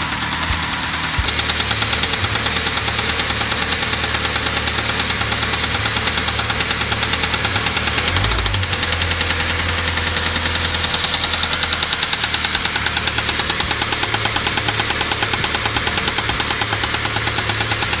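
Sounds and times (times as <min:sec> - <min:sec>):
engine running with rapid knock: 0:00.0 - 0:18.0.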